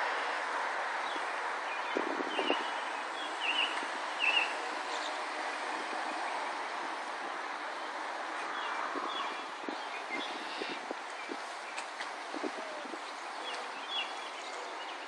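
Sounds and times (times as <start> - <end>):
outdoor background hiss: 0.0 - 15.0
small birds chirping: 1.0 - 15.0.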